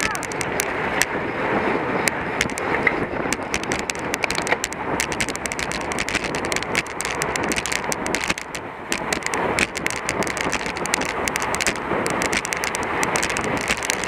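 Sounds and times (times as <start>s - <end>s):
sharp clicks: 0.0s - 1.2s, 2.0s - 14.0s
road and bike noise: 0.0s - 14.0s
wind rushing over microphone: 0.0s - 14.0s.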